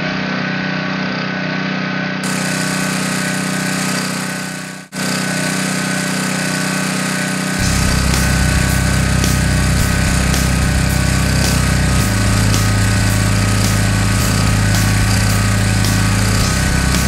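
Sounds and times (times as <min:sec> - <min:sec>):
pressure washer running: 0:02.2 - 0:17.0.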